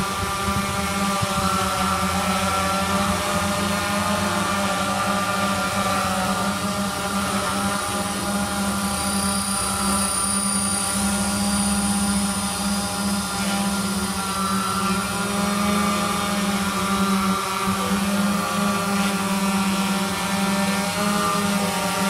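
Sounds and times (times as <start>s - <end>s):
quadcopter humming: 0.0s - 22.0s.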